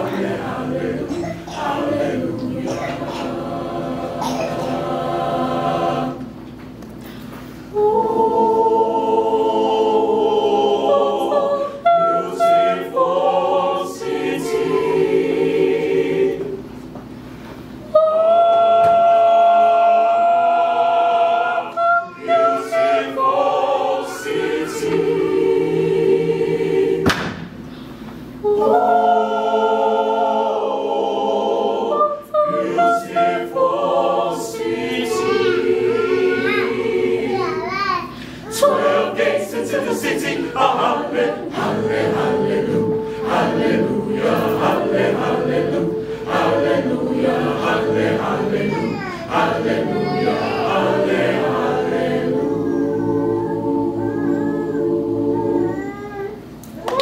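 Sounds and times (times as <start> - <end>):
choir singing a cappella: 0.0 - 16.9, 17.6 - 56.1.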